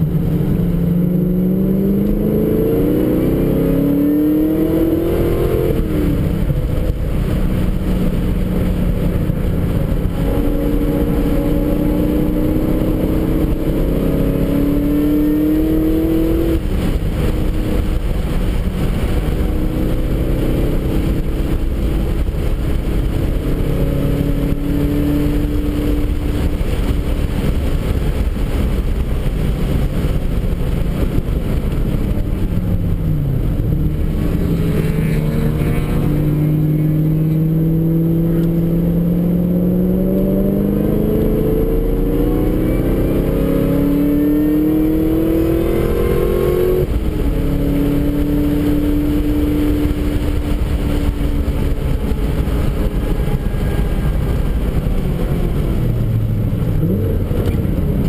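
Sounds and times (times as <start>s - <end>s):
car engine accelerating: 0.0s - 58.0s
road rumble: 0.0s - 58.0s
wind noise: 0.0s - 58.0s.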